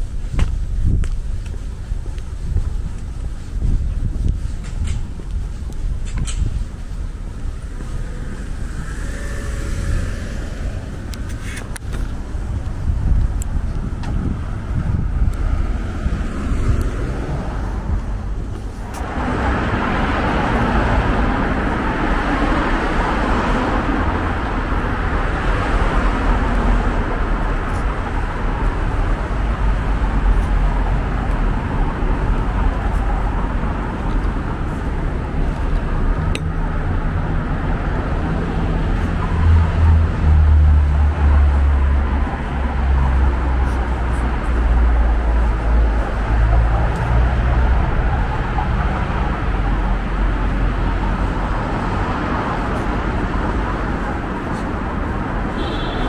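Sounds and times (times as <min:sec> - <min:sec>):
deep low rumble: 0:00.0 - 0:52.8
cars passing: 0:00.0 - 0:56.0.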